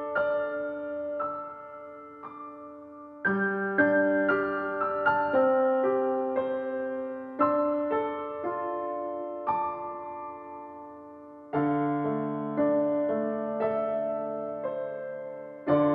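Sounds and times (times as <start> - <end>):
piano notes and chords: 0.0 - 15.9.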